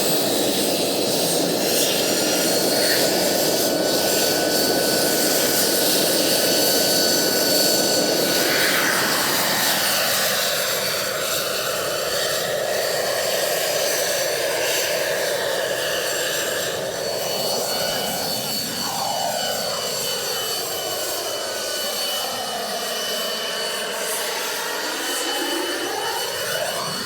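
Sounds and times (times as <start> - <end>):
helicopter rotor noise: 0.0 - 27.0
high turbine whine: 0.0 - 27.0.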